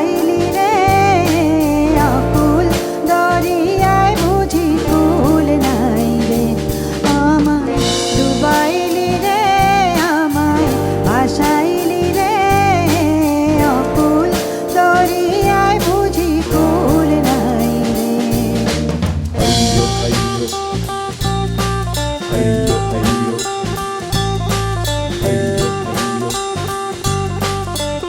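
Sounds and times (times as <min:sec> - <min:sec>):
folk band playing instrumental: 0:00.0 - 0:28.0.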